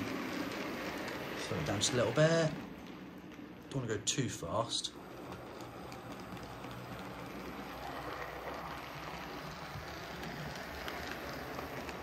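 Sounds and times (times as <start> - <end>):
model train motor whirring: 0.0 - 2.6, 4.7 - 12.0.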